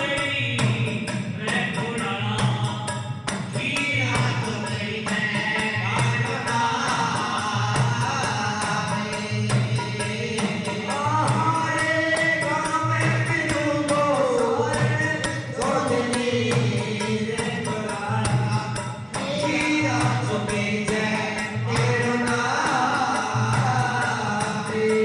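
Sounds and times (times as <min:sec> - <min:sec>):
hand percussion beat: 0:00.0 - 0:25.0.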